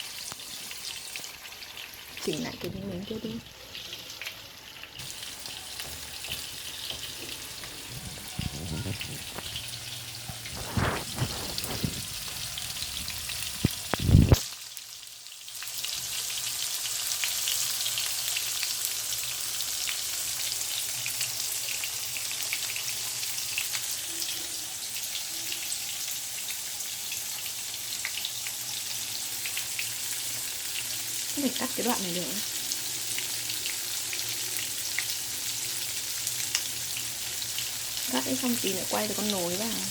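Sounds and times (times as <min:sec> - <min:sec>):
tofu sizzling in oil: 0:00.0 - 0:39.9.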